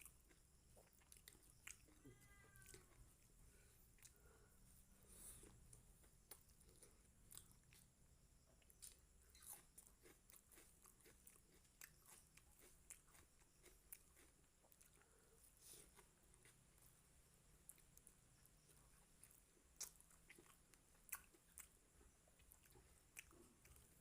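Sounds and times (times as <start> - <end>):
person chewing: 0.0 - 4.5, 5.1 - 8.0, 8.6 - 16.9, 17.6 - 24.0.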